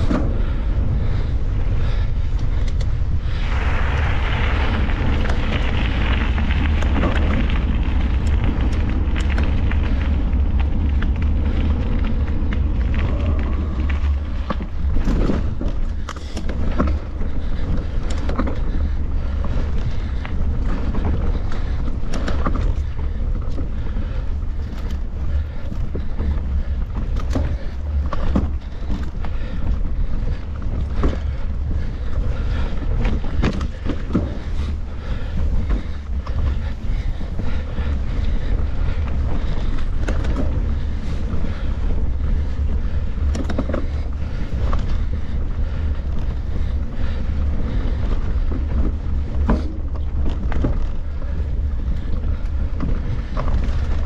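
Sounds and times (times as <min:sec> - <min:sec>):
bike knocks and rattles: 0:00.0 - 0:54.0
wind rumbling on microphone: 0:00.0 - 0:54.0.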